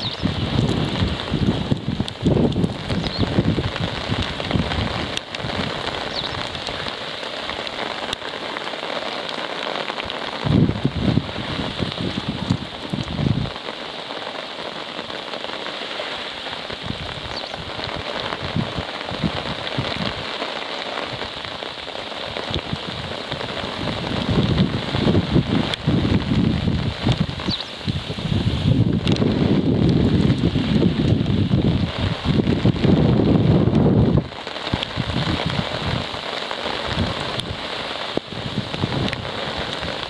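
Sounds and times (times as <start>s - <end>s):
wind buffeting microphone: 0.0s - 8.1s, 9.9s - 13.8s, 16.3s - 20.4s, 22.2s - 40.0s
rain falling: 0.0s - 40.0s.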